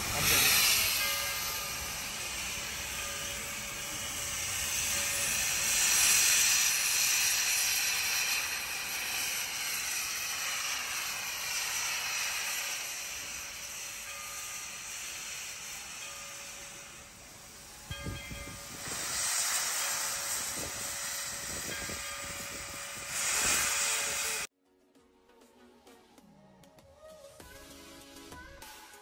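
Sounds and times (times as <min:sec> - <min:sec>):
steam locomotive venting steam: 0:00.0 - 0:24.5.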